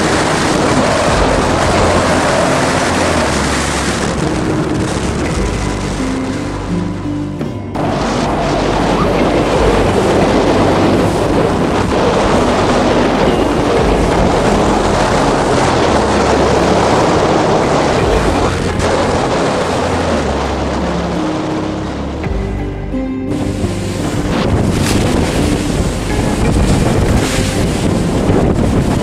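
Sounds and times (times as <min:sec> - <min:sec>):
strong wind on microphone: 0:00.0 - 0:29.0
waves splashing along hull: 0:00.0 - 0:29.0.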